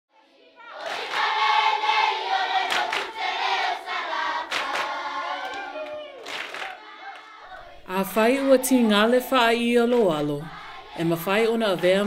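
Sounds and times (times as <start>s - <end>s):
choir singing: 0.1s - 5.9s, 6.6s - 12.0s.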